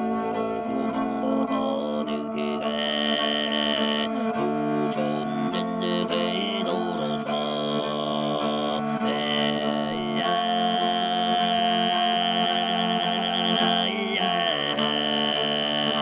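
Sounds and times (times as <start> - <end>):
music with sustained chords: 0.0 - 16.0.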